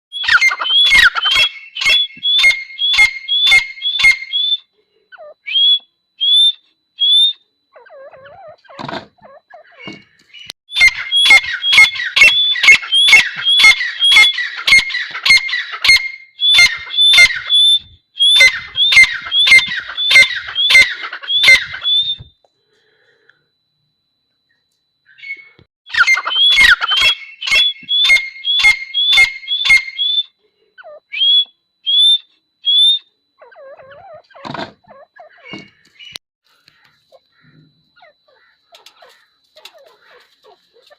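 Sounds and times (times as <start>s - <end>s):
partridge calling: 0.1s - 22.3s, 25.1s - 40.9s.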